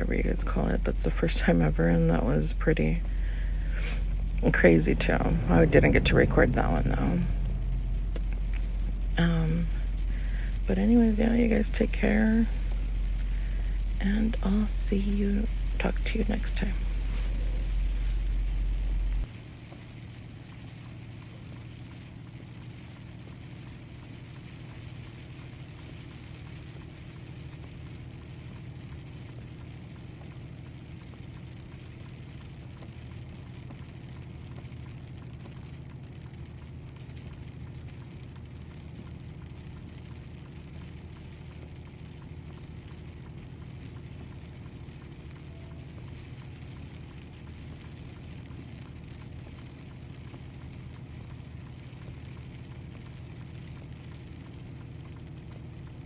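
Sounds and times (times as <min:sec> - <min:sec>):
engine and road hum: 0:00.0 - 0:56.0
rain on truck cab: 0:00.0 - 0:56.0.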